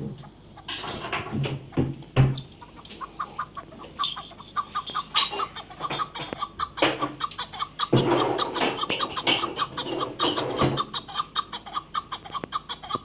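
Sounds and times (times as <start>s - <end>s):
partridge clucking calls: 0.0s - 13.0s
sharp bird calls: 0.2s - 13.0s.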